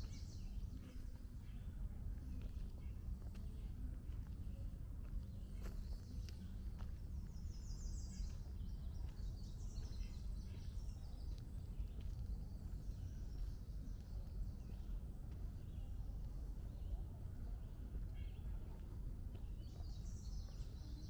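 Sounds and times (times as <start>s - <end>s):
low microphone rumble: 0.0s - 21.0s.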